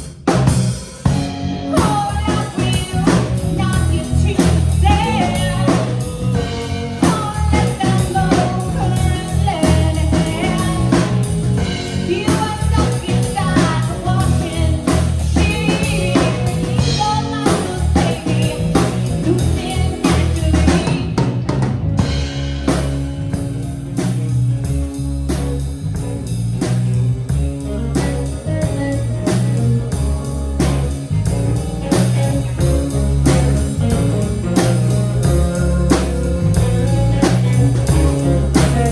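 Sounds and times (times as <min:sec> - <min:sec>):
band playing drums bass guitar: 0:00.0 - 0:38.9.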